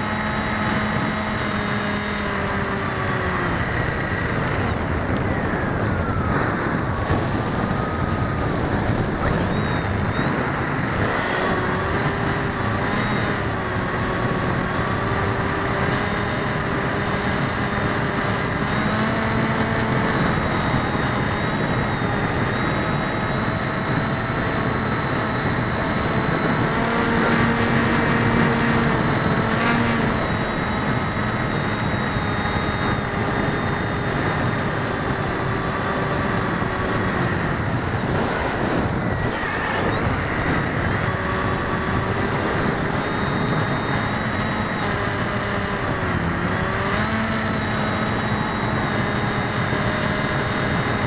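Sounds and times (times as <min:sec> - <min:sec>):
electric motors and propellers: 0:00.0 - 0:51.0
heavy wind noise: 0:00.0 - 0:51.0.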